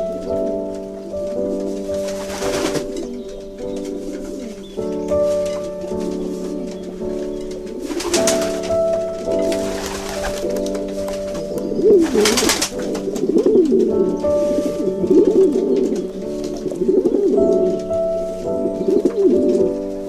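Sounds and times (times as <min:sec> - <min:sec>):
music of held notes: 0:00.0 - 0:20.0
pigeons cooing: 0:02.0 - 0:20.0.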